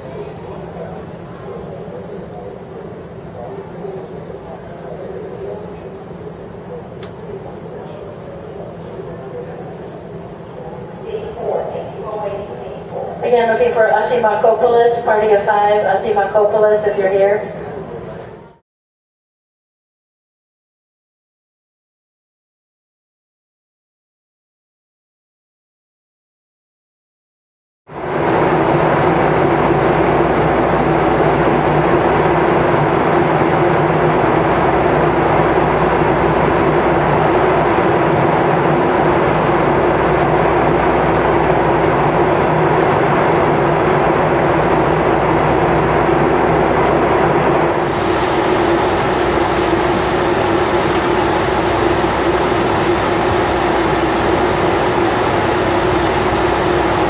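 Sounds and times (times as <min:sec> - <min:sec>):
jet engine noise in cabin: 0:00.0 - 0:18.6, 0:27.9 - 0:57.0.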